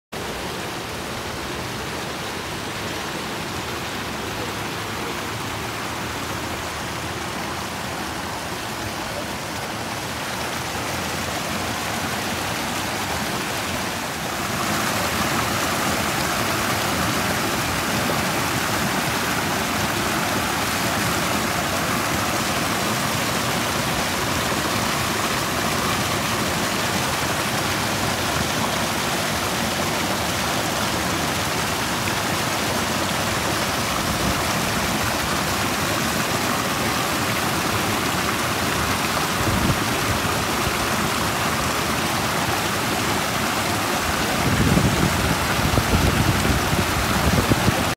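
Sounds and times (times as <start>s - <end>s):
stream rushing and splashing: 0.1s - 47.9s.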